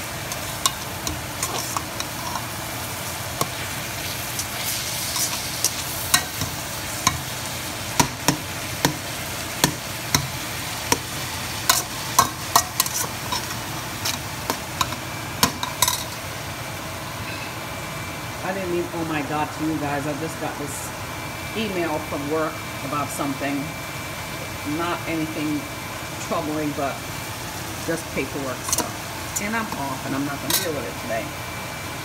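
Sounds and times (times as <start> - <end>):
food sizzling in a pot: 0.0 - 18.3, 21.5 - 32.0
vent fan running: 0.0 - 32.0.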